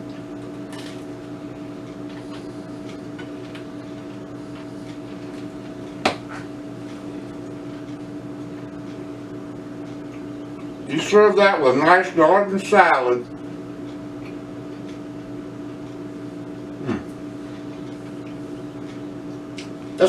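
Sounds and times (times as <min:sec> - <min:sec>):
kitchen appliance hum: 0:00.0 - 0:20.0.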